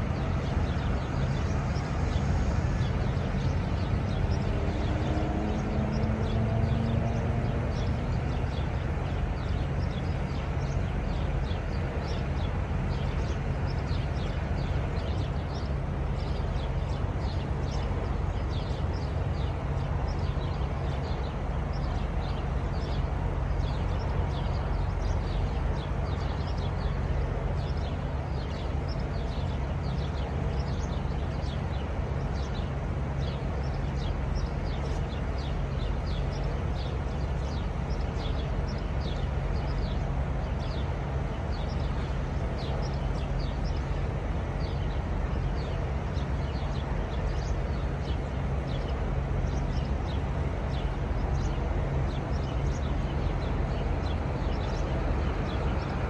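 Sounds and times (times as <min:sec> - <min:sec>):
diesel engines idling: 0:07.4 - 0:56.0.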